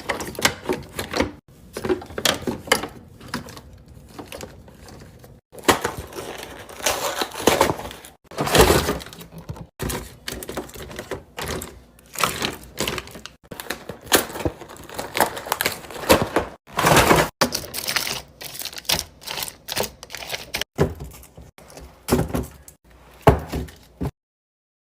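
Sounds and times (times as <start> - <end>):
containers clattering on fridge shelves: 0.0 - 24.1.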